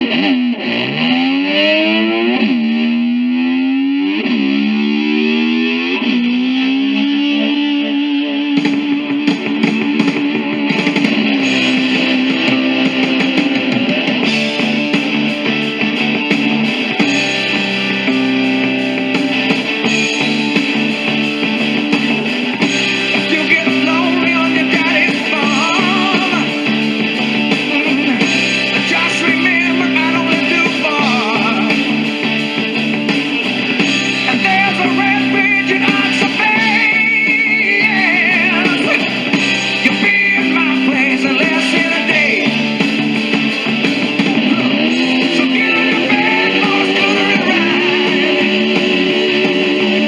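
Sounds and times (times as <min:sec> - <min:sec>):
distorted electric slide guitar: 0:00.0 - 0:50.0
rock band playing: 0:05.1 - 0:50.0.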